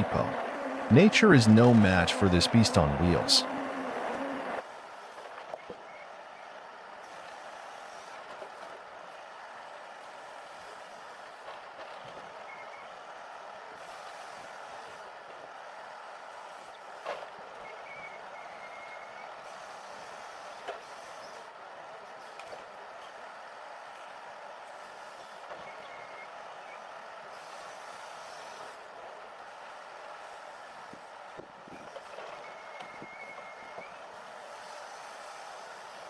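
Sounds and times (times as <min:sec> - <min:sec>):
truck running with road noise: 0:00.0 - 0:36.0.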